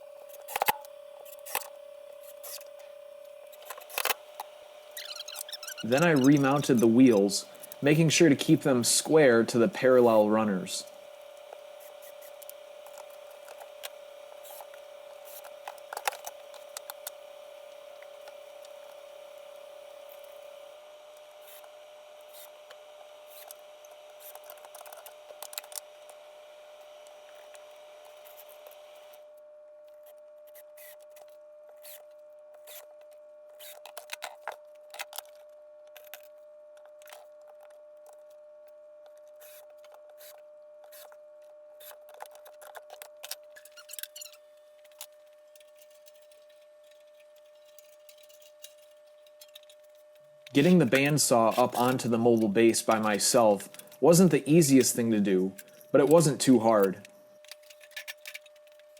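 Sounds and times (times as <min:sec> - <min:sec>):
steady electrical hum: 0:00.0 - 0:58.9.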